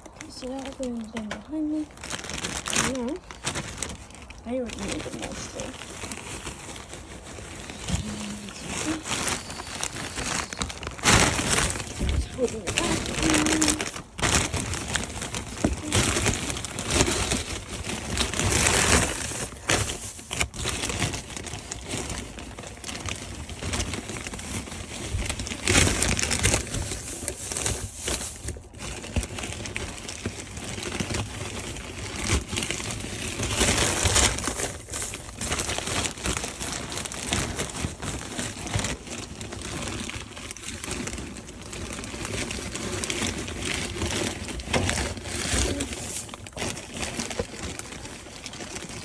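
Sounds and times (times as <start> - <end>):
straw rustling and crackling: 0.0 - 49.0.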